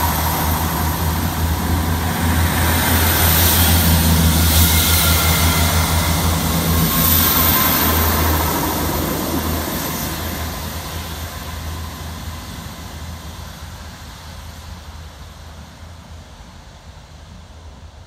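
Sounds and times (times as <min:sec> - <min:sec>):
train wheel rumble: 0:00.0 - 0:16.5
train engine hum: 0:00.0 - 0:18.0.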